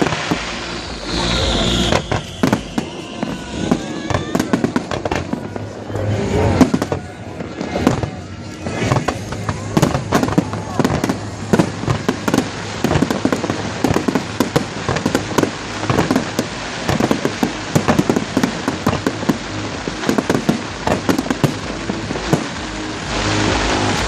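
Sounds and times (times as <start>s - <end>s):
fireworks crackling and popping: 0.0s - 24.0s.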